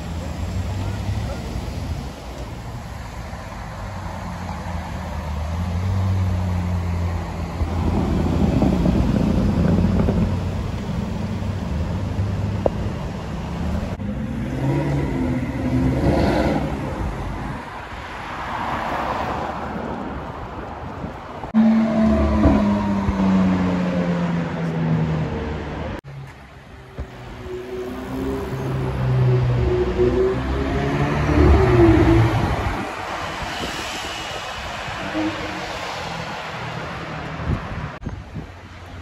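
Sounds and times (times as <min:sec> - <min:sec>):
passing car: 0:00.0 - 0:39.0.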